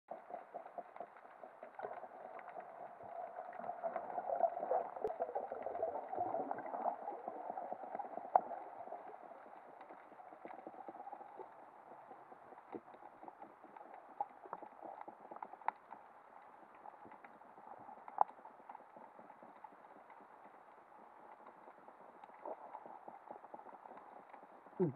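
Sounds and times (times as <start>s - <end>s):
sharp clicks and crackles: 0.2s - 24.7s.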